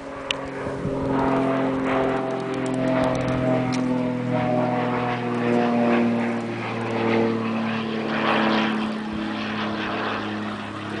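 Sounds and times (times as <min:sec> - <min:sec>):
propeller airplane engine: 0:00.0 - 0:11.0.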